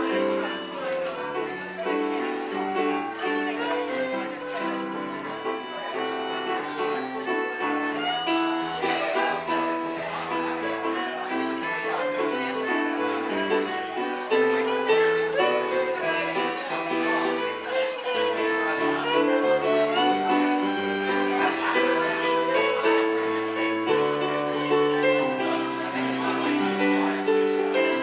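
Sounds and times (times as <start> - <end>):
violin music over held chords: 0.0 - 28.0.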